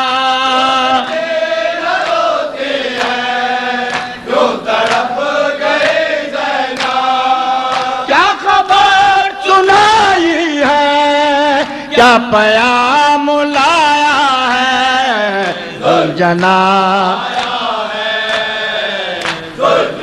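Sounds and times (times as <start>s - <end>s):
men chanting lament in unison: 0.0s - 20.0s.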